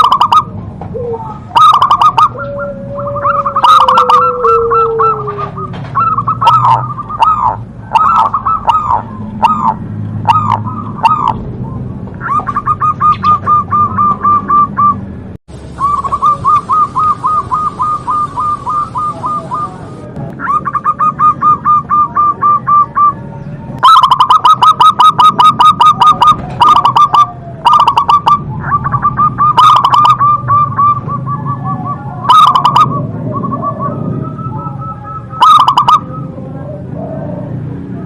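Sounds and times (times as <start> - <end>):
doves cooing: 0.0 - 38.0.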